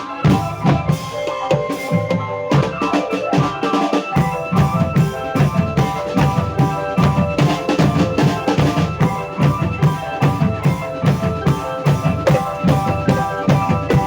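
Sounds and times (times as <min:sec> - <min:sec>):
fast drum beat: 0:00.0 - 0:14.0
sustained melodic tones: 0:00.0 - 0:14.0.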